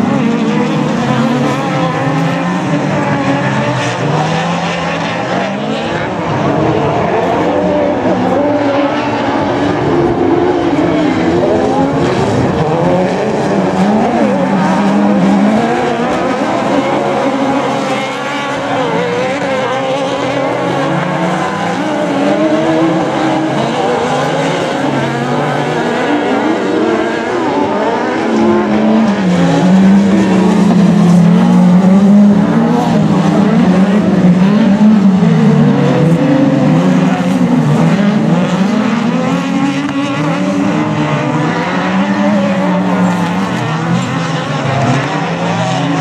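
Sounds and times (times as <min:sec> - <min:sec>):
buggy engines racing: 0:00.0 - 0:46.0.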